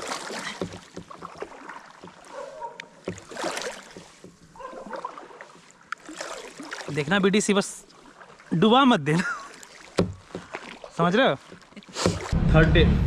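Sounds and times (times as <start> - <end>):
paddle splashing water: 0.0 - 12.4.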